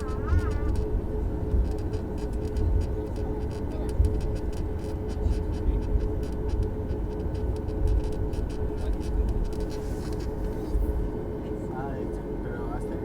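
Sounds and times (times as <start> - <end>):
light clicking rattles: 0.0 - 10.5
airliner low rumble: 0.0 - 13.0.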